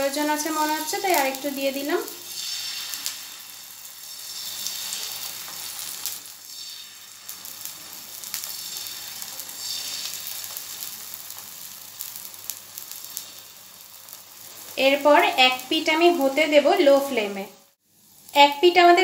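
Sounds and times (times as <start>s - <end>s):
batter sizzling in frying pan: 0.0s - 19.0s.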